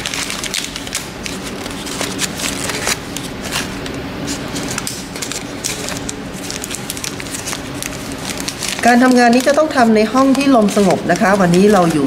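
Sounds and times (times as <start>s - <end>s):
paper and plastic crinkling: 0.0s - 12.0s.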